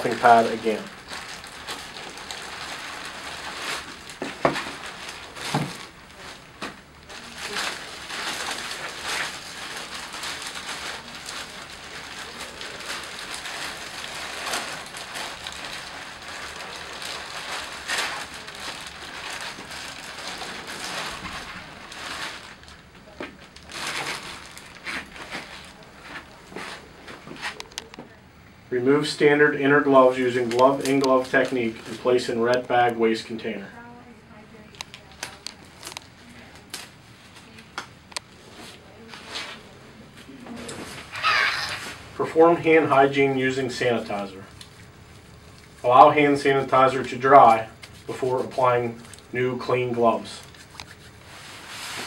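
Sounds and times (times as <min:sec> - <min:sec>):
plastic covers rustling: 0:00.0 - 0:28.2, 0:28.8 - 0:52.0.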